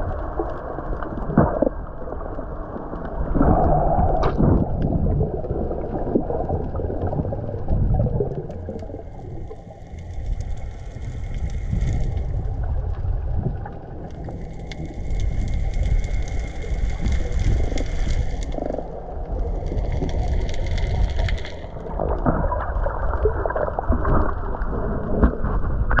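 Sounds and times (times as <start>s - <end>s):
low rumble: 0.0s - 26.0s
underwater crackling: 0.0s - 26.0s.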